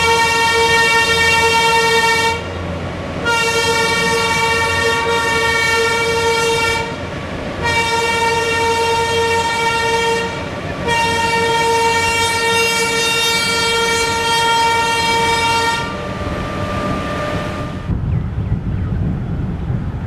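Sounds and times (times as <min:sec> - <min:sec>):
train horn blasts: 0:00.0 - 0:02.6, 0:03.2 - 0:17.9
moving train rumble: 0:00.0 - 0:20.0.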